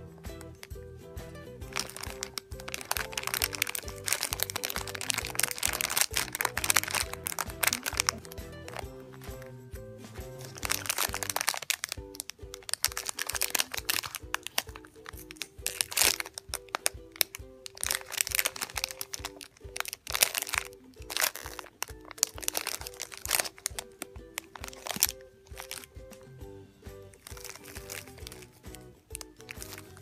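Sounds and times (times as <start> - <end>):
background music: 0.0 - 30.0
plastic bag crinkling: 1.7 - 9.4, 10.4 - 26.3, 27.2 - 30.0.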